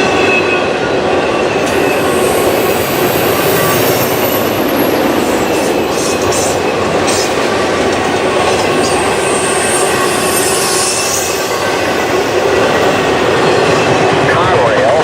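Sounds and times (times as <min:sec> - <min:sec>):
freight train rumbling: 0:00.0 - 0:15.0
wheels squealing on rails: 0:00.0 - 0:15.0.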